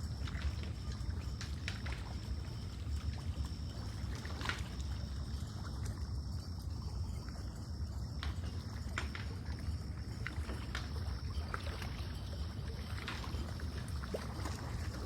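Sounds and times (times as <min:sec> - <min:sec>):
water lapping against shore: 0:00.0 - 0:15.0.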